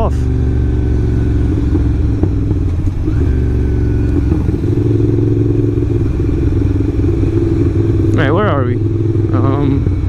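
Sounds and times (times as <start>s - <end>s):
motorcycle engine drone: 0.0s - 10.0s.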